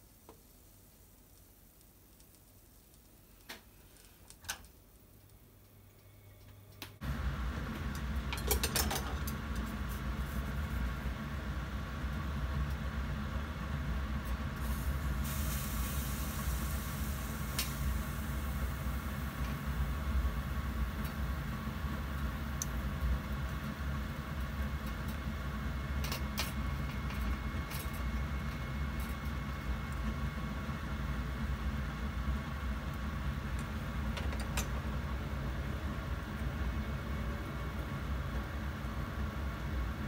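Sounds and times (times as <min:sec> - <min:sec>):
mechanical hum with hiss: 0:00.0 - 0:40.0.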